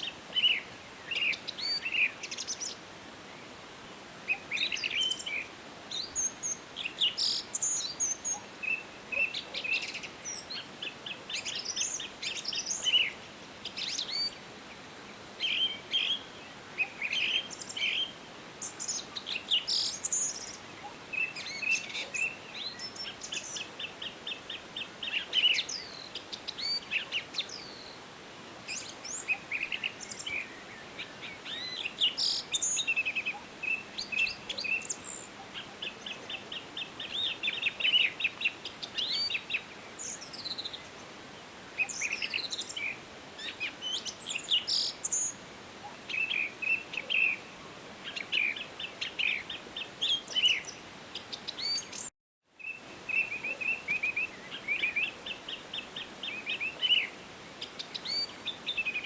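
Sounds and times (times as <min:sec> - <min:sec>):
faint steady hiss: 0:00.0 - 0:59.0
songbirds singing and calling: 0:00.0 - 0:59.0.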